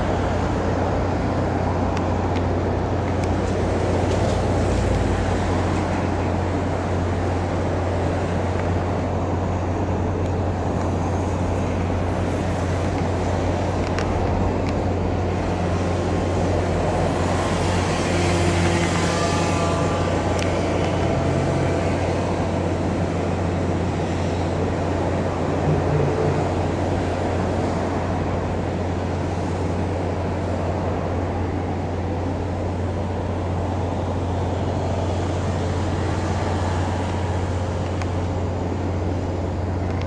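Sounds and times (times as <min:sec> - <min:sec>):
low mechanical rumble: 0:00.0 - 0:40.0.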